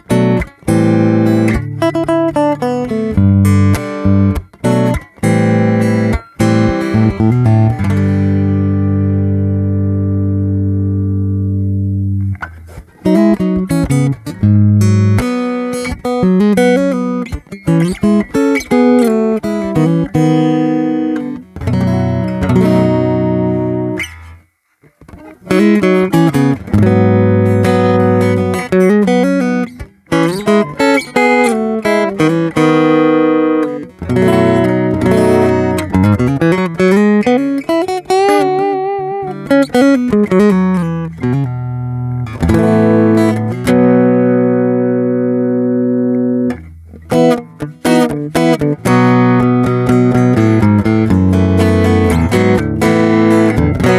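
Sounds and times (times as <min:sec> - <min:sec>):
solo acoustic guitar melody: 0:00.0 - 0:53.9.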